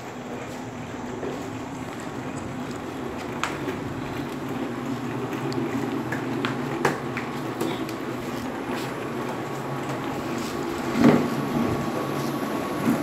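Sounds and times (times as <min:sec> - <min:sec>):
plastic wheels rolling on tile: 0:00.0 - 0:13.0.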